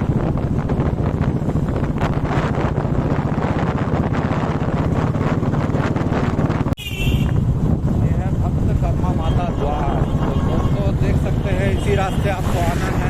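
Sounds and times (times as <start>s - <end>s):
motorcycle engine and road rumble: 0.0s - 13.0s
wind buffeting microphone: 0.0s - 13.0s.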